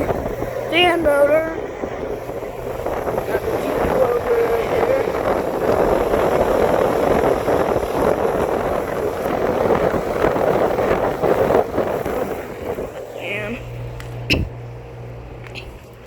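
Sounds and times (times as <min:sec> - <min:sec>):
air conditioner fan whooshing: 0:00.0 - 0:16.0.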